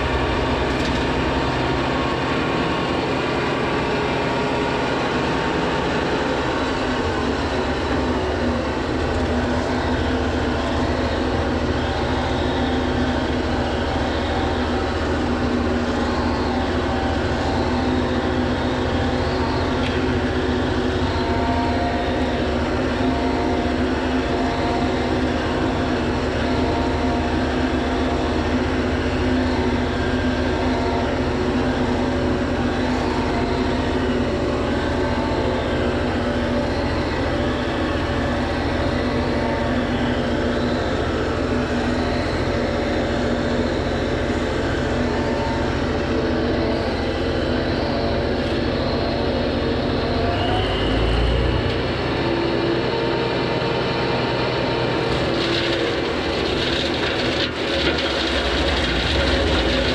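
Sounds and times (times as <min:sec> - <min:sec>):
tractor and hedge trimmer drone: 0:00.0 - 0:59.9.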